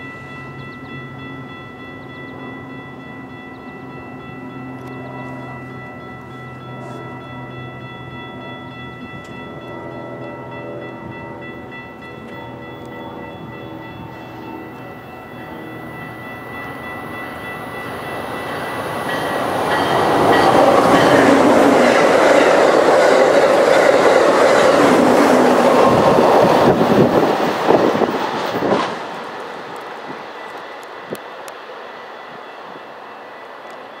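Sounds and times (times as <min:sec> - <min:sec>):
train passing close by: 0:00.0 - 0:34.0.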